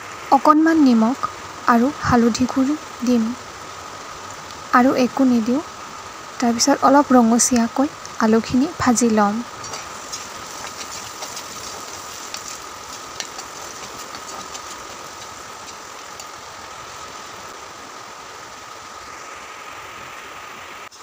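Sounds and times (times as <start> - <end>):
potatoes sizzling in oil: 0.0 - 19.7.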